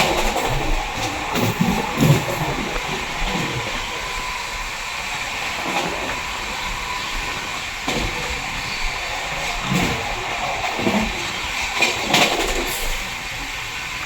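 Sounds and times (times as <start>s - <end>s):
train rushing on rails: 0.0s - 14.0s.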